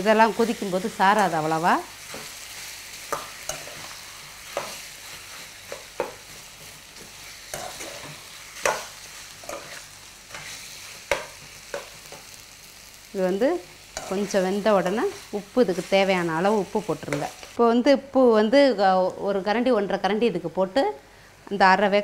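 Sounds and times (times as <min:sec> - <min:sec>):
food sizzling in a pan: 0:00.0 - 0:17.6.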